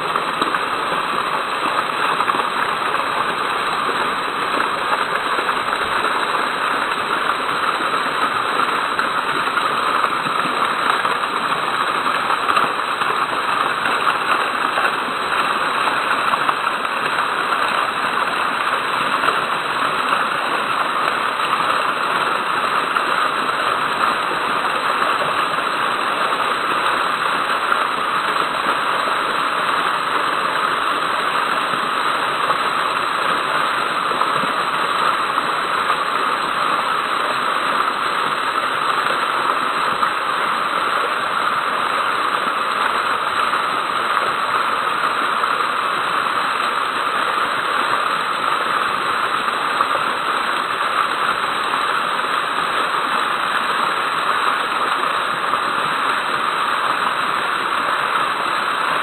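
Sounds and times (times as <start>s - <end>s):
fountain water splashing: 0.0s - 59.0s.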